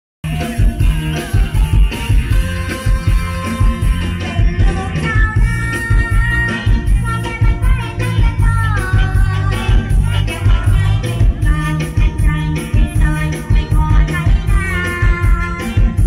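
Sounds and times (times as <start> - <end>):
band music with heavy bass beat: 0.2 - 16.0
pitch-bending melody line: 0.2 - 16.0.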